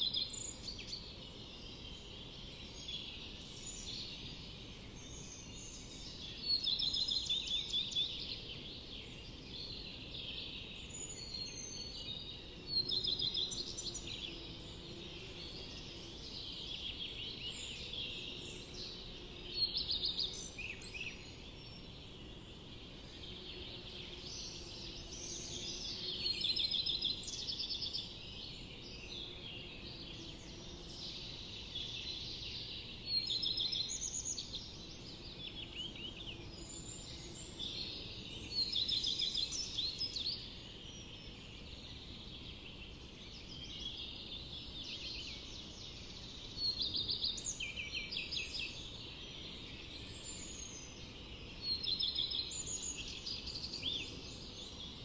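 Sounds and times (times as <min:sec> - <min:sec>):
forest birds singing: 0:00.0 - 0:55.0.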